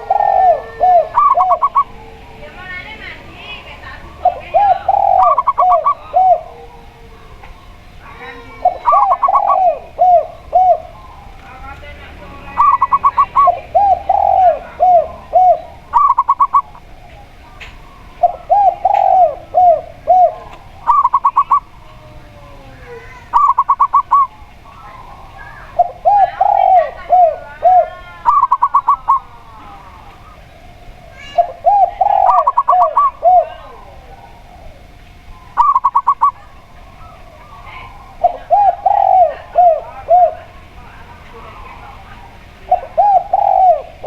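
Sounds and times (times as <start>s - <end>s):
rapid high dove coos: 0.0s - 44.0s
slow low dove coos: 0.0s - 44.0s.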